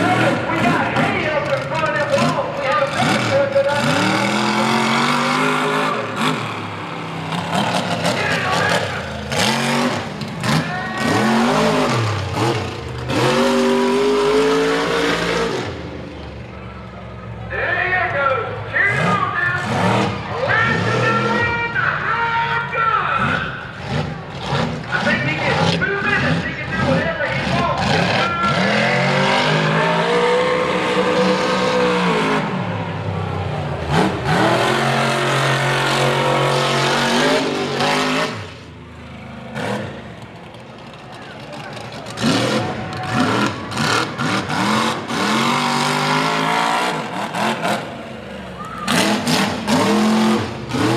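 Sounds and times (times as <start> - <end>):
truck engine revving: 0.0 - 50.9.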